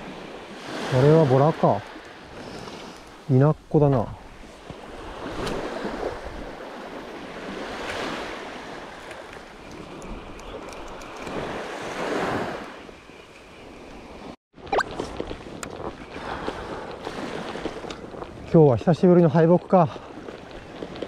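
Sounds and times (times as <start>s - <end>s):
small waves breaking on sand: 0.0s - 14.4s, 15.2s - 21.0s.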